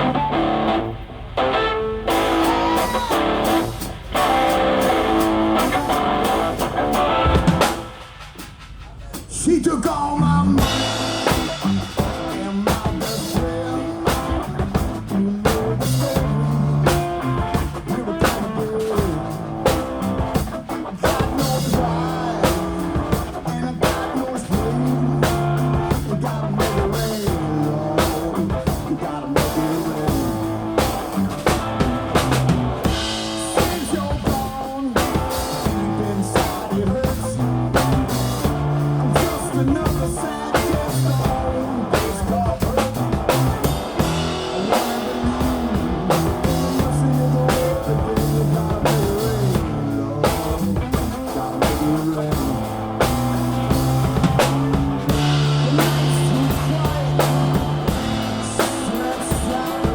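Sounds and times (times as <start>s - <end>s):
electric guitar: 0.0s - 8.7s, 9.9s - 59.9s
blues band playing: 0.0s - 59.9s.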